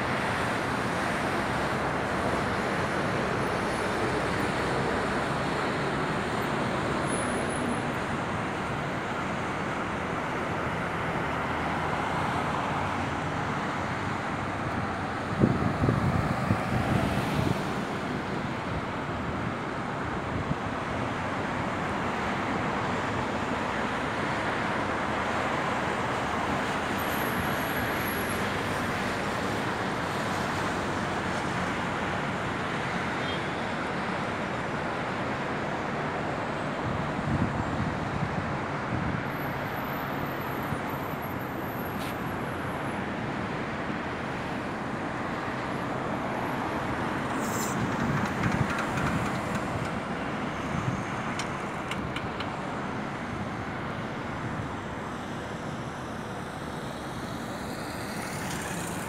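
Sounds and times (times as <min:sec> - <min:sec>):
road traffic rushing: 0:00.0 - 0:59.0.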